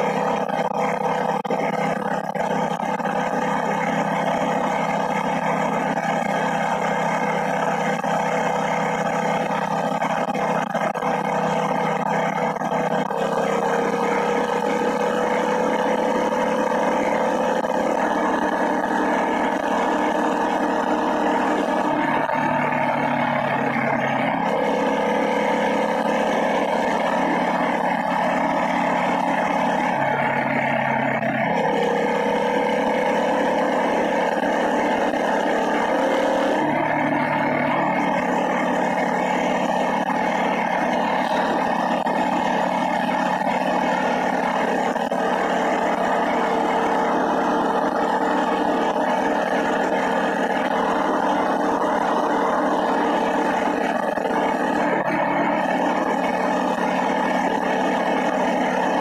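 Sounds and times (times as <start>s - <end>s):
small motorbike engine running: 0.0s - 59.0s.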